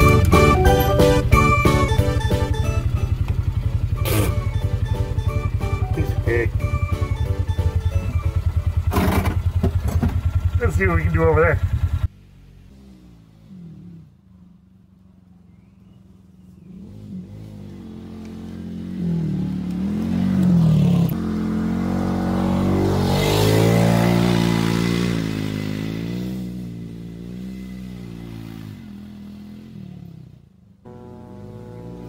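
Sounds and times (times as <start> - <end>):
vehicle engine revving: 0.0 - 14.8, 15.9 - 32.0.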